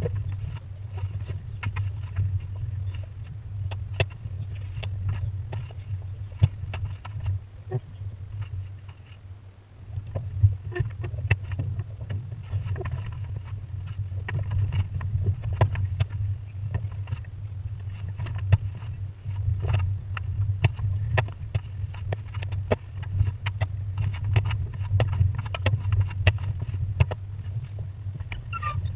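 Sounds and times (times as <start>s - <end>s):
sails and rigging clicking and knocking: 0.0s - 28.9s
wind buffeting camera: 0.0s - 28.9s.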